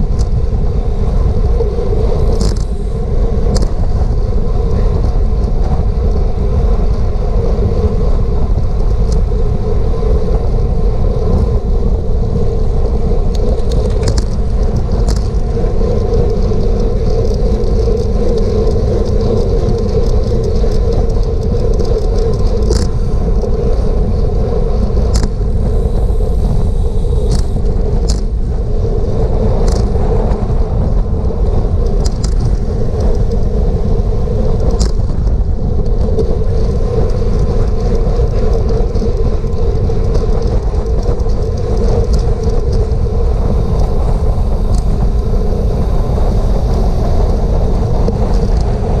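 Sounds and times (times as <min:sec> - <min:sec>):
wind and road rush: 0:00.0 - 0:49.0.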